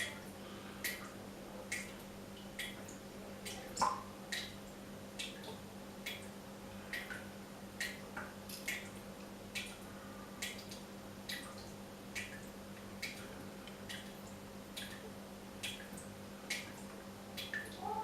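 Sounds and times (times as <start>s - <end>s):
water drops dripping from tap: 0.0s - 9.8s, 10.4s - 18.0s
faint steady hum: 0.0s - 18.0s.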